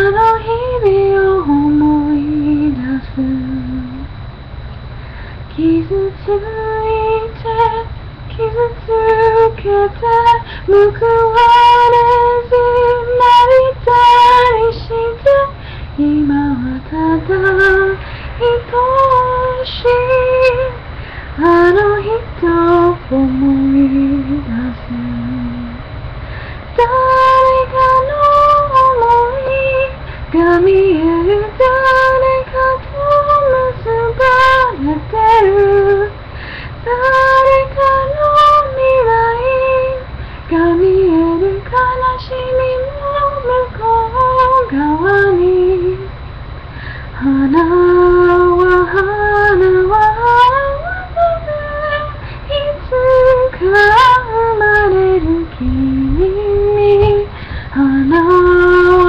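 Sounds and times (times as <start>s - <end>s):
woman singing unaccompanied ballad: 0.0s - 4.2s, 5.4s - 46.2s, 46.8s - 59.0s
low steady microphone hum: 0.0s - 59.0s.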